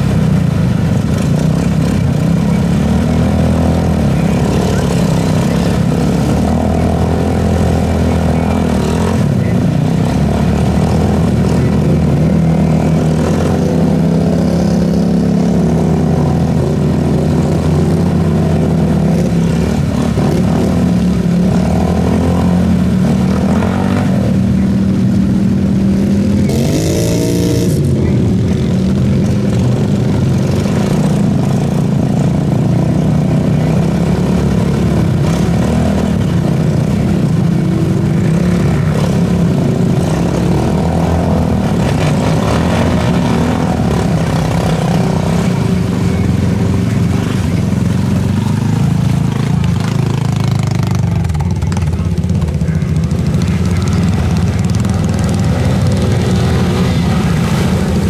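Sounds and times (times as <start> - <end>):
engine revving: 0.0 - 58.0
off-road vehicle engines running: 0.0 - 58.0.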